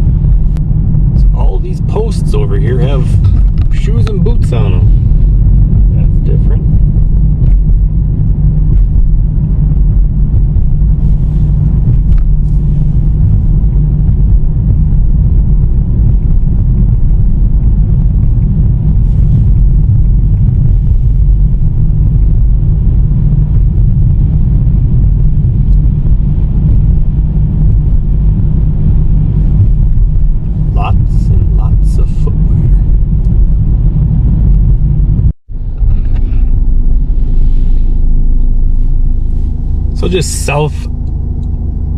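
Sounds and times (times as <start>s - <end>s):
car road rumble inside cabin: 0.0s - 41.9s.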